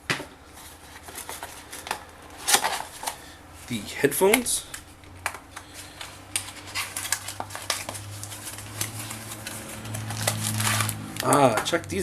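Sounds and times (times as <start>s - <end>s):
low electrical hum: 0.0s - 12.0s
packaging clicks and crackles: 0.9s - 11.9s.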